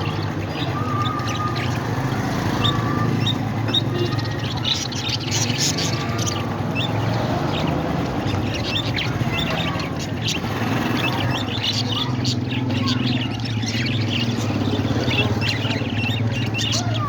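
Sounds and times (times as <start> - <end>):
parrots chirping: 0.0 - 17.0.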